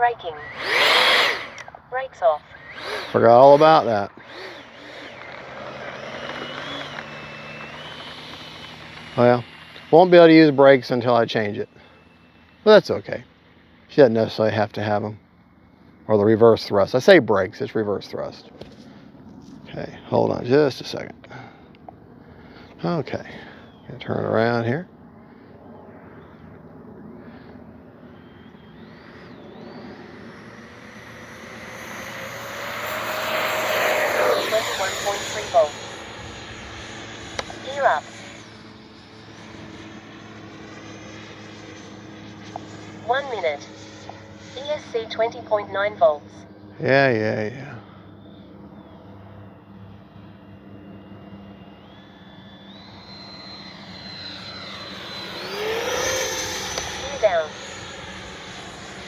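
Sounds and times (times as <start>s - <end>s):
electric fan whining: 0.0s - 17.3s, 18.5s - 59.0s.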